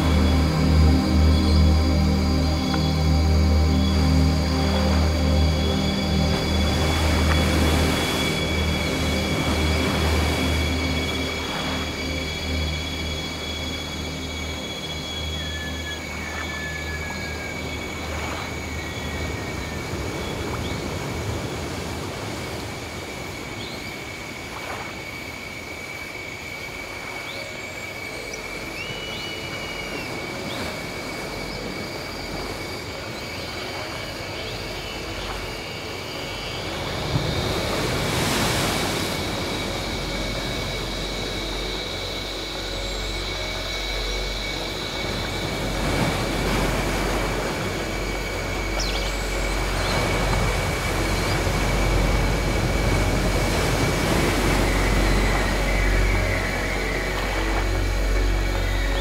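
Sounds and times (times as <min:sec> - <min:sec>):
waves washing: 0:00.0 - 0:59.0.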